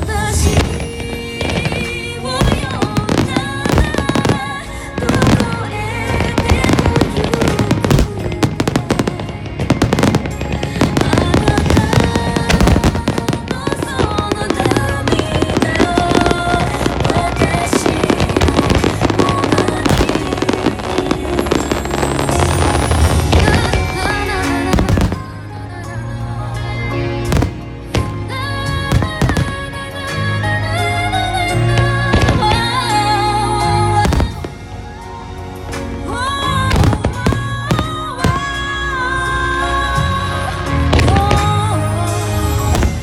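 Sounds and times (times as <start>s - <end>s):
fireworks bursting: 0.0s - 39.0s, 39.9s - 43.0s
music playing: 0.0s - 43.0s.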